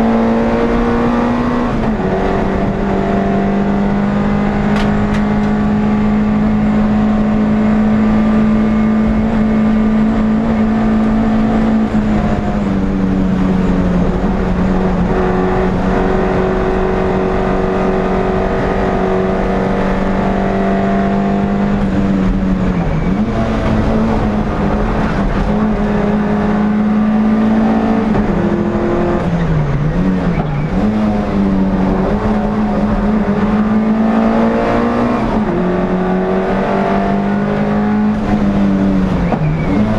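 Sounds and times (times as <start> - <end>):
race car engine at high revs: 0.0 - 39.9
road and wind rumble: 0.0 - 39.9.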